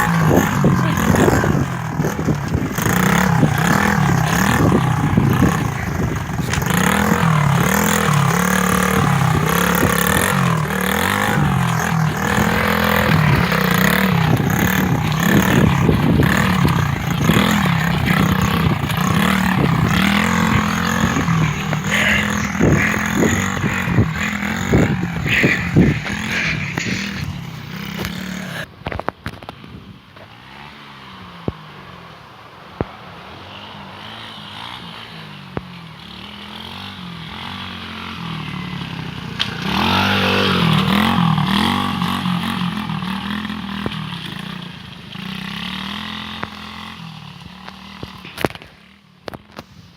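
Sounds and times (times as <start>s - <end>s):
dirt bike engine revving: 0.0s - 28.7s, 33.9s - 49.4s.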